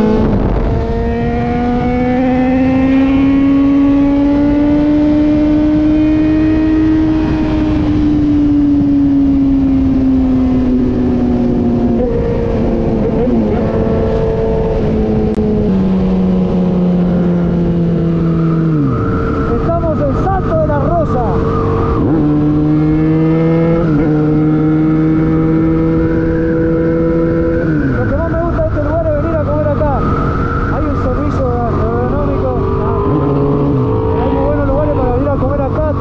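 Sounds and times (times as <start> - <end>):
wind rush on microphone: 0.0 - 36.0.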